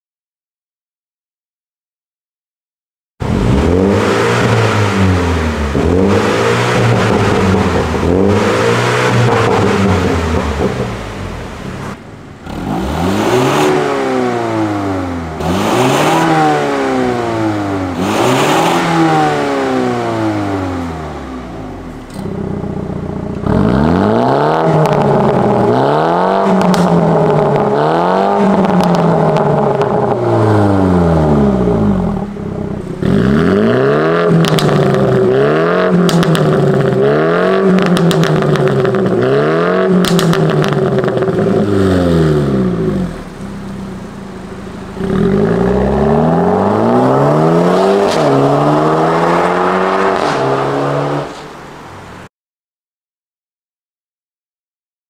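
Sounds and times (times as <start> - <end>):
car engine revving: 3.2 - 52.3.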